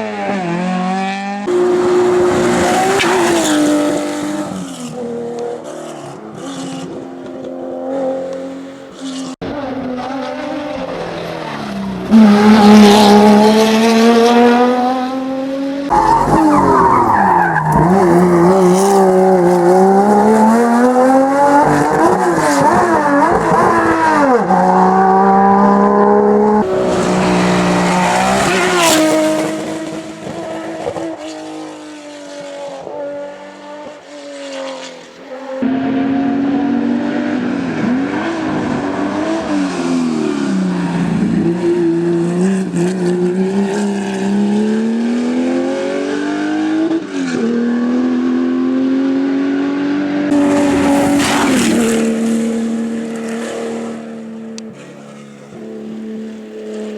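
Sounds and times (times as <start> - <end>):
racing car engines revving: 0.0 - 56.9.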